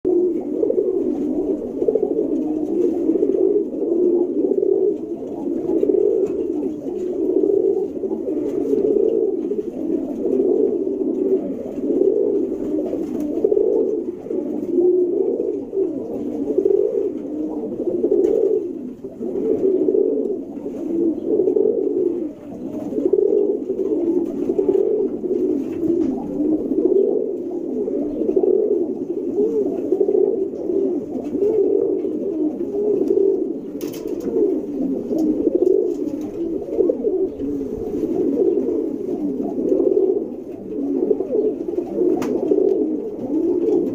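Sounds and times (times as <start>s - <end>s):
pigeons cooing: 0.0s - 43.9s.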